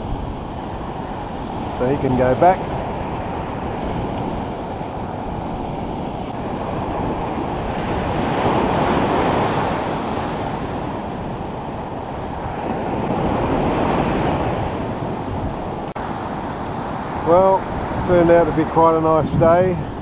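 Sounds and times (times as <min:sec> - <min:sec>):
ocean surf breaking on beach: 0:00.0 - 0:20.0.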